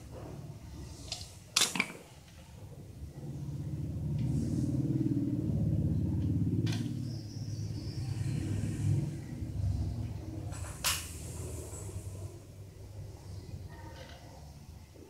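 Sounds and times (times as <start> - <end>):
low engine rumble: 2.5 - 14.9.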